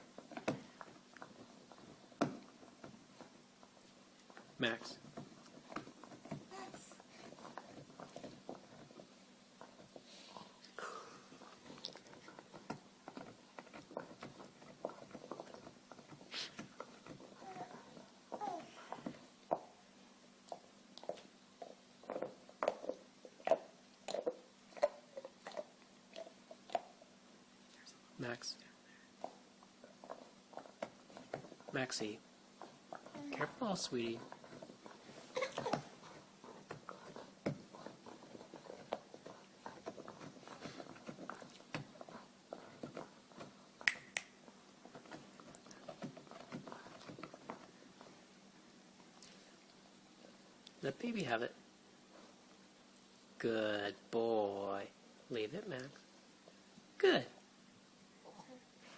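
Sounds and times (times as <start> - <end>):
dog gnawing on a bone: 0.0 - 10.6, 11.3 - 19.8, 20.4 - 27.2, 29.1 - 50.8.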